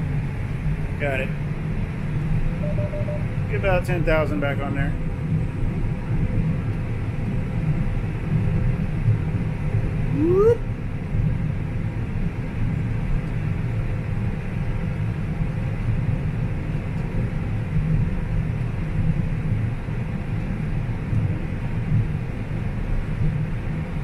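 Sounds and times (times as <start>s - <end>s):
combine harvester engine drone: 0.0s - 24.0s.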